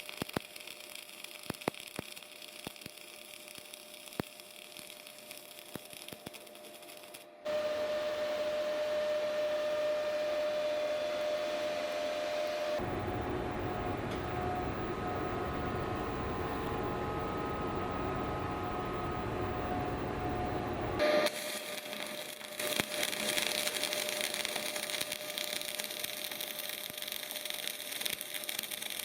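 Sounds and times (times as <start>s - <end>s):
steady hum: 0.0s - 29.0s
welding arc crackling and hissing: 0.0s - 29.0s.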